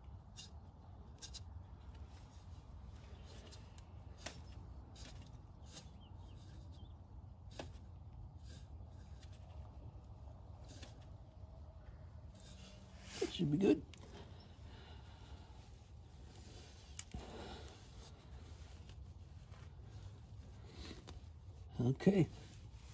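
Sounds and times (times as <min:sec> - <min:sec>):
low background rumble: 0:00.0 - 0:22.9.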